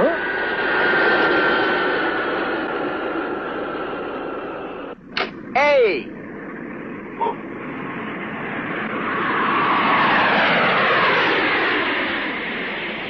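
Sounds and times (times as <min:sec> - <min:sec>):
cartoon airplane flying past: 0:00.0 - 0:13.0.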